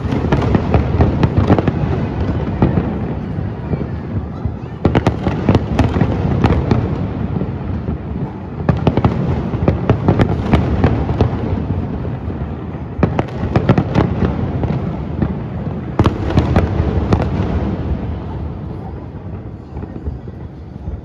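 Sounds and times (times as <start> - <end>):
sharp firework cracks: 0.0 - 20.0
fireworks bursting: 0.0 - 21.0.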